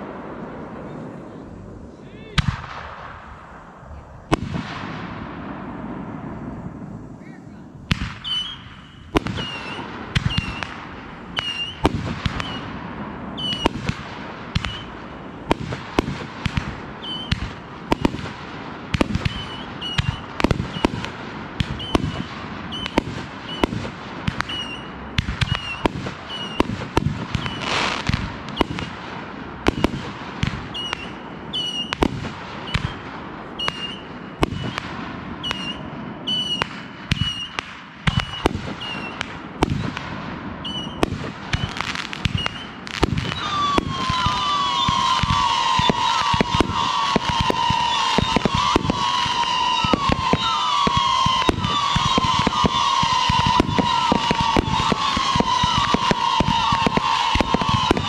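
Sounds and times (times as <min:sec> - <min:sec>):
fireworks bangs and booms: 0:00.0 - 0:58.0.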